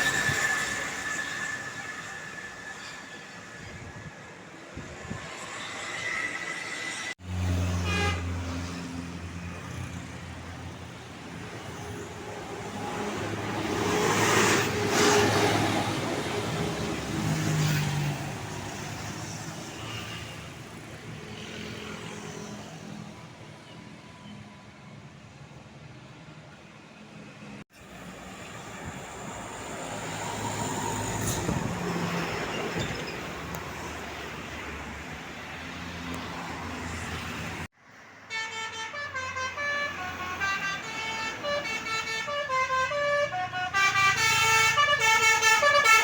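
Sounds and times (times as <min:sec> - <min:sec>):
bus passing: 0:00.0 - 0:46.0.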